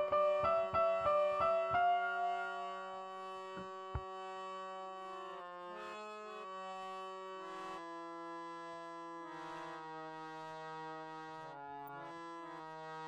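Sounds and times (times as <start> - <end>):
harmonium chords: 0.0 - 13.0.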